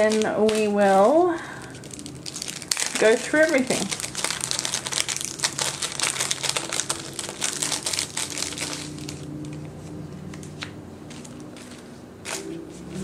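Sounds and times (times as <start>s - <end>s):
paper handling clicks: 0.0s - 12.5s
plastic sleeves crinkling: 0.0s - 13.0s.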